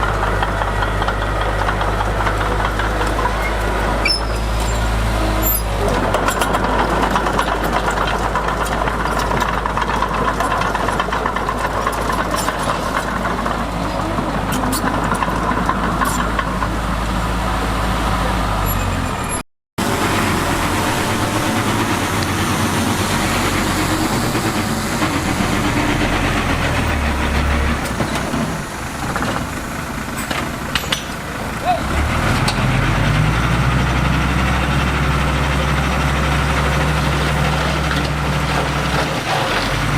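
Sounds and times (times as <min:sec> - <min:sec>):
diesel engines humming: 0:00.0 - 0:39.9.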